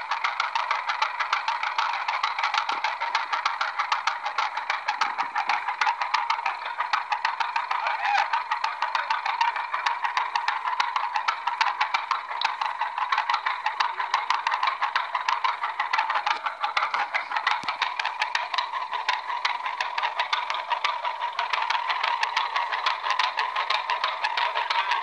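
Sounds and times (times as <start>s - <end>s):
tractor engine popping clatter: 0.0s - 25.0s.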